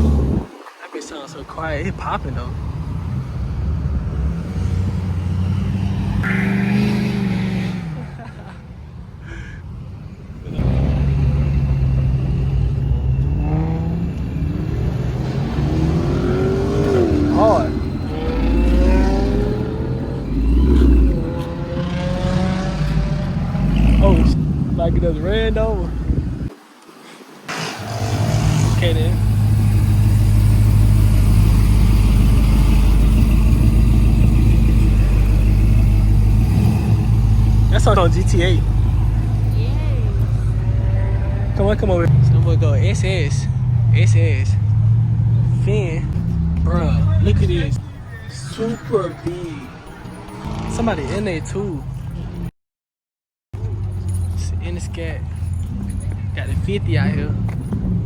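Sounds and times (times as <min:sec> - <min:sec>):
car engine accelerating hard: 0:00.0 - 0:00.5, 0:01.6 - 0:08.5, 0:10.3 - 0:26.5, 0:27.5 - 0:52.5.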